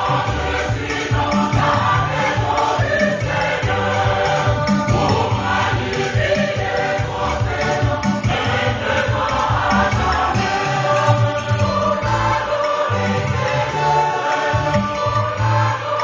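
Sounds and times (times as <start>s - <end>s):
steady low beat: 0.0s - 13.5s
choir singing upbeat gospel song: 0.0s - 16.0s.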